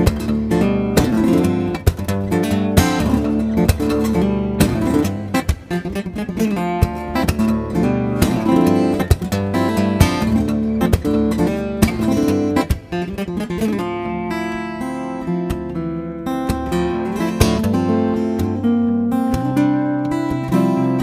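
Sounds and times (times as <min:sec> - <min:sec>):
acoustic guitar plucked and strummed: 0:00.0 - 0:21.0.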